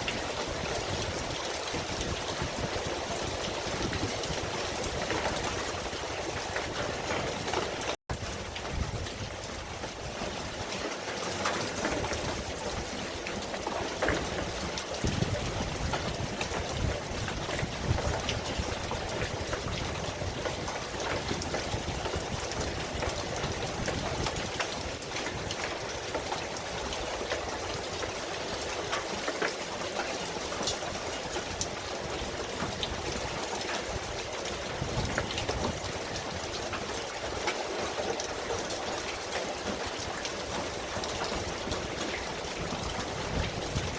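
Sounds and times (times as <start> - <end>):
raindrops spattering on surfaces: 0.0 - 43.9.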